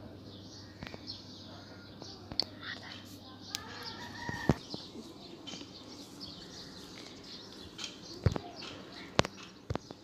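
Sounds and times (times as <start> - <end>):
birdsong chirps: 0.0 - 10.0.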